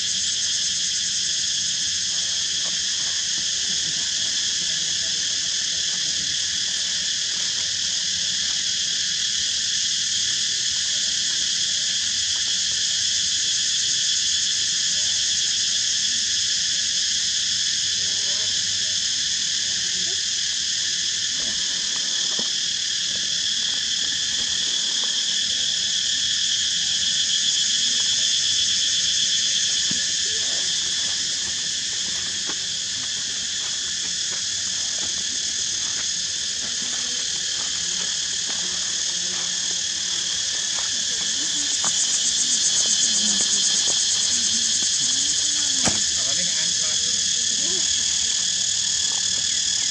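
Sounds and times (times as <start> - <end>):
insects shrill drone: 0.0 - 49.9.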